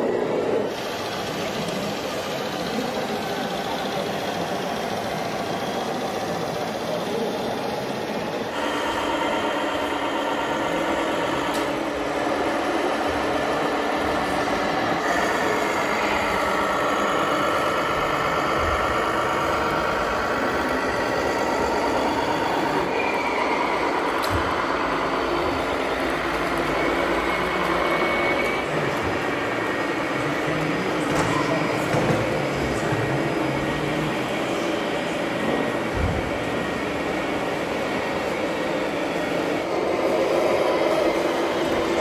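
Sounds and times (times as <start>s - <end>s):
model trucks engine running: 0.4s - 42.0s.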